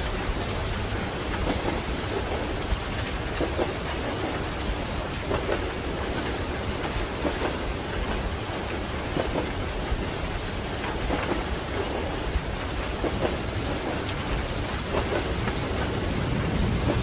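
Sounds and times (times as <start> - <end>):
moving train rumble: 0.0 - 17.0
steady rain: 0.0 - 17.0.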